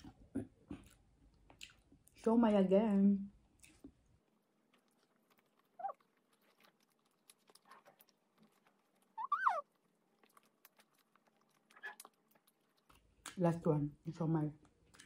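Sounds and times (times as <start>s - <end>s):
soft chewing with mouth clicks: 0.0s - 2.2s, 3.3s - 13.4s, 14.6s - 15.0s.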